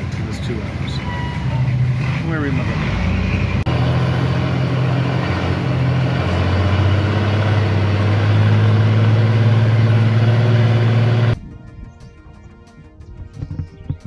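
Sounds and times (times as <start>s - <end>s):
bus engine running: 0.0s - 11.4s
road noise: 0.0s - 11.4s.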